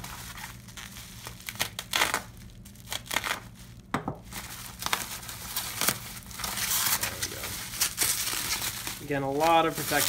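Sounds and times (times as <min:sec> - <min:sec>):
bubble wrap crinkling and tearing: 0:00.0 - 0:10.0.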